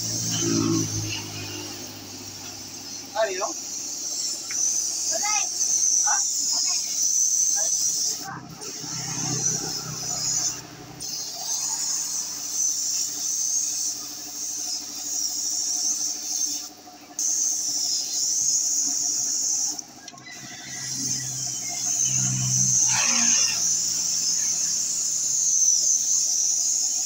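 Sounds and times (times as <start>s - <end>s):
paint spray gun hissing: 0.0s - 27.0s.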